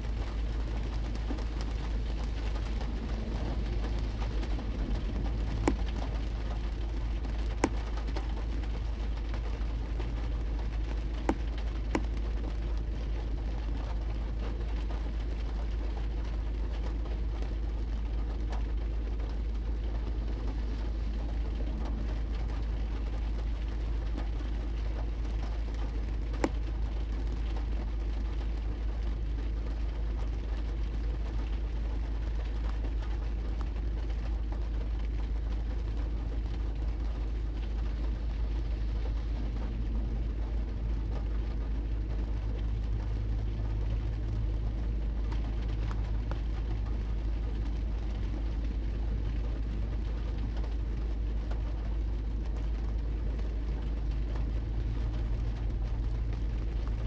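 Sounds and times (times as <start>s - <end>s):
low car rumble: 0.0s - 57.0s
rain pattering on windshield: 0.0s - 57.0s.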